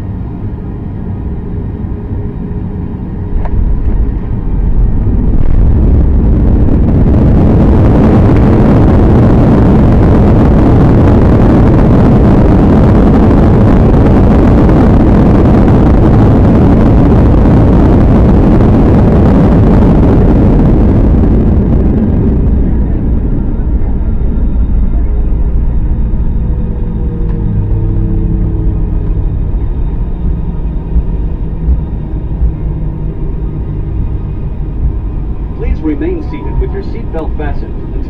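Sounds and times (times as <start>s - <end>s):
jet engines and airflow rushing: 0.0s - 38.0s.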